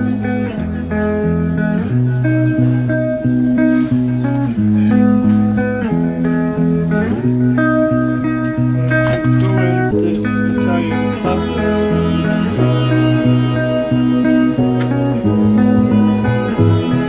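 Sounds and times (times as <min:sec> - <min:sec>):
bass line: 0:00.0 - 0:17.0
guitar playing: 0:00.0 - 0:17.0.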